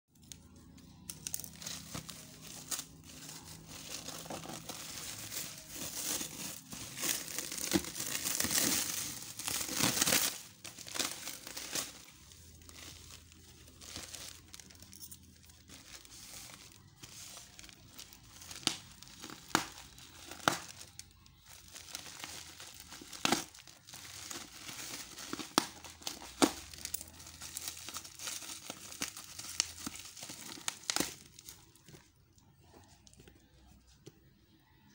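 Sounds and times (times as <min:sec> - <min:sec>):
packaging crinkling and tearing: 0:00.2 - 0:32.1.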